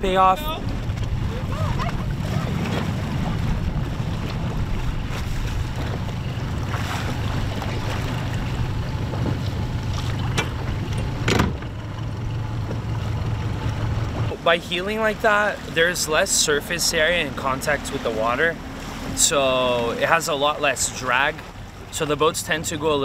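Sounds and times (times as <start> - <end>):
choppy water: 0.0 - 23.0
outboard motor humming: 0.0 - 23.0
wind: 0.0 - 23.0.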